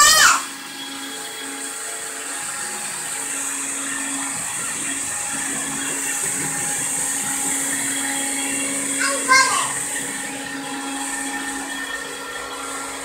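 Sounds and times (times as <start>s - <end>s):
stick vacuum running: 0.0s - 13.0s.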